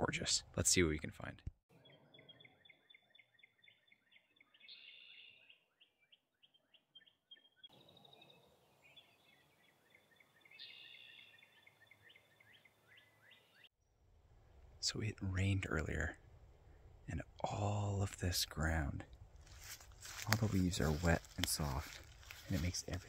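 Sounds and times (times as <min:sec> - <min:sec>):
songbird chirping: 0:01.1 - 0:13.8, 0:14.8 - 0:23.0.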